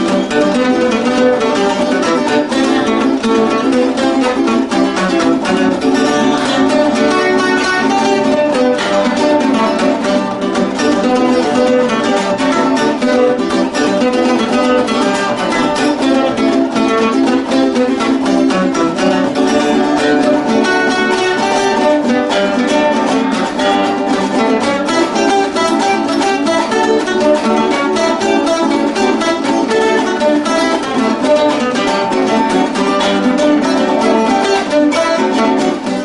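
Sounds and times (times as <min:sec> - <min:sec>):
folk music on plucked strings: 0:00.0 - 0:36.0.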